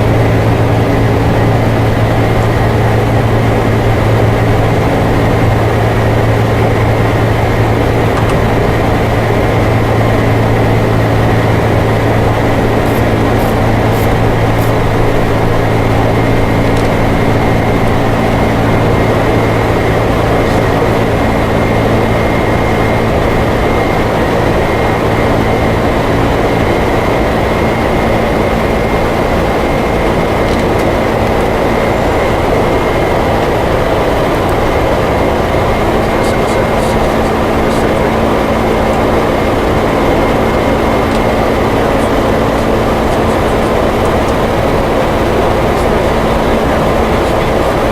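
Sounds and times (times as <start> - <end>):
cockpit air and engine noise: 0.0 - 47.9
low even hum: 0.0 - 47.9.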